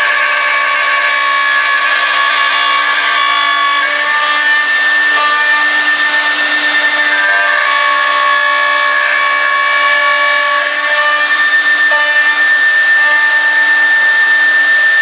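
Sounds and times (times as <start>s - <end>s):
cnc router spindle whine: 0.0s - 15.0s.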